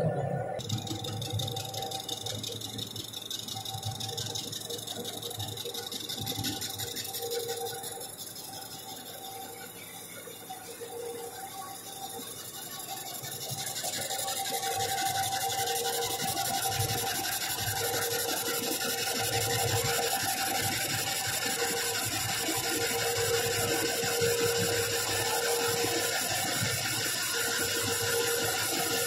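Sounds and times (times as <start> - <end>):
lathe whining and grinding: 0.0 - 29.0.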